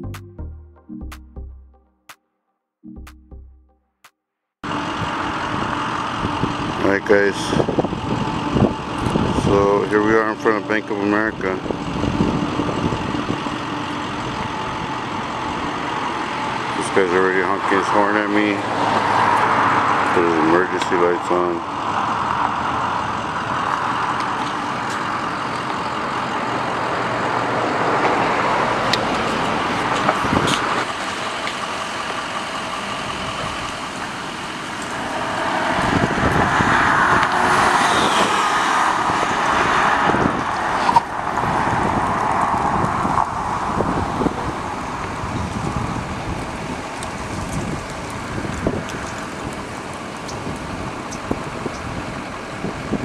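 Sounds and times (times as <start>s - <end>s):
cars and van driving past: 4.6s - 53.0s.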